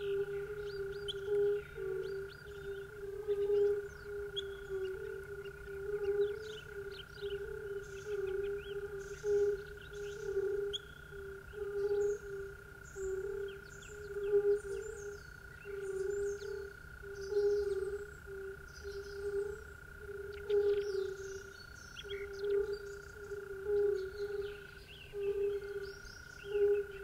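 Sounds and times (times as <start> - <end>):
frogs croaking: 0.0 - 27.0
steady high hum: 0.0 - 27.0.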